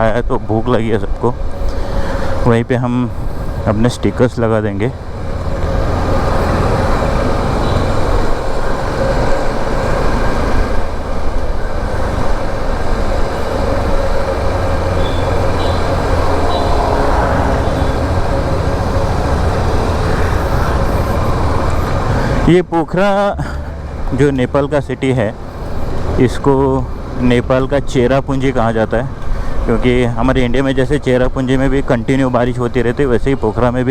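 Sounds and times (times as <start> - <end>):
motorcycle engine and road noise: 0.0 - 33.9.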